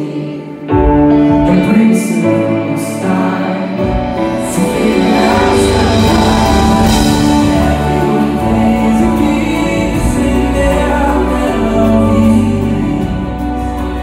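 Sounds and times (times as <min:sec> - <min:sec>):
band accompaniment: 0:00.0 - 0:14.0
man singing into microphone: 0:00.0 - 0:14.0.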